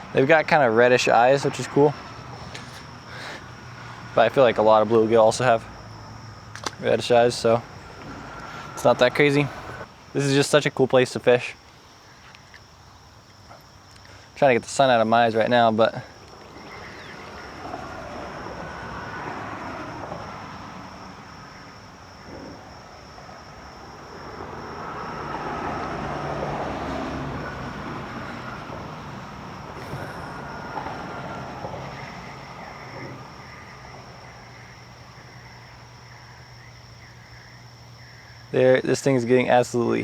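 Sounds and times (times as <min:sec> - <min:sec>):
high-pitched insect trill: 0:00.0 - 0:40.0
road traffic passing: 0:00.0 - 0:40.0.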